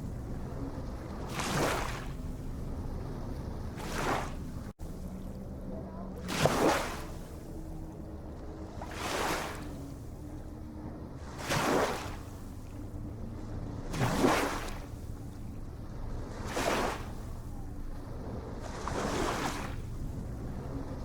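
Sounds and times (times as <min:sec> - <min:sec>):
low sea rumble: 0:00.0 - 0:21.0
ocean waves washing in: 0:00.0 - 0:21.0.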